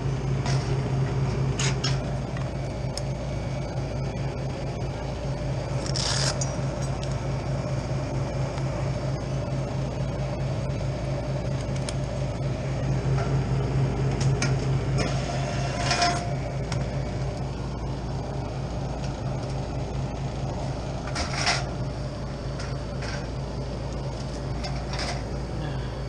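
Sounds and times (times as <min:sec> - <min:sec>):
freezer compressor humming: 0:00.0 - 0:26.0.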